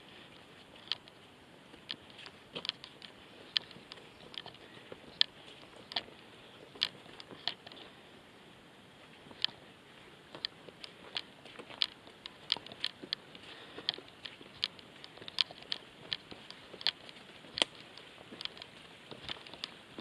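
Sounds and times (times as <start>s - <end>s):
footsteps on loose stones: 0.0s - 8.0s, 9.0s - 20.0s.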